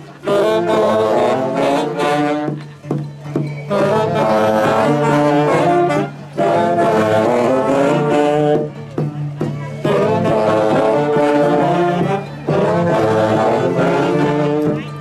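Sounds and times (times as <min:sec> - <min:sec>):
wind ensemble dance tune: 0:00.0 - 0:15.0.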